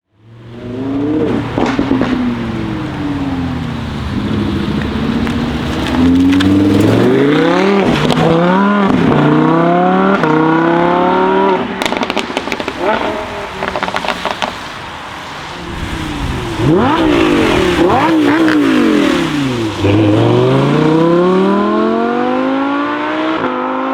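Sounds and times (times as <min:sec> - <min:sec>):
sports car engine accelerating: 0:00.2 - 0:14.4, 0:15.6 - 0:23.9
exhaust crackles: 0:00.4 - 0:22.4.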